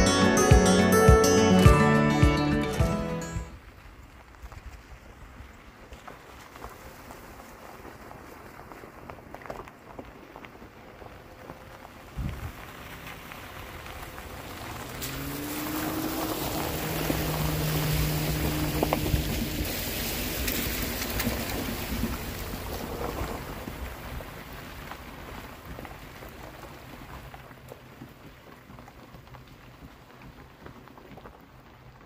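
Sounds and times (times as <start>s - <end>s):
rain falling: 2.8s - 32.0s
vehicle passing on wet road: 3.2s - 32.0s.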